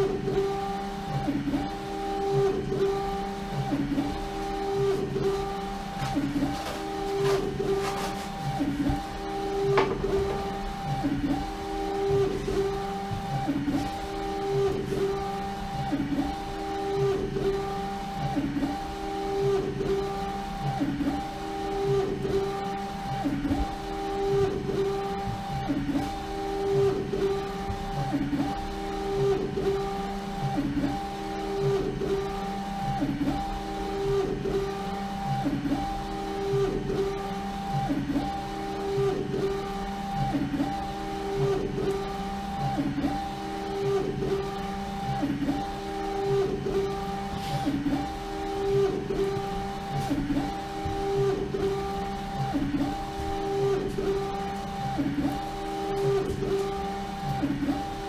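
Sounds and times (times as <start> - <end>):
printer carriage motor whine: 0.0 - 58.0.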